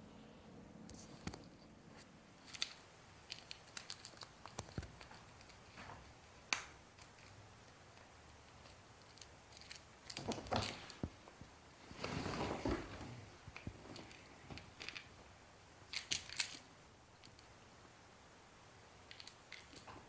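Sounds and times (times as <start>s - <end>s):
ferrets rustling: 1.9s - 20.0s.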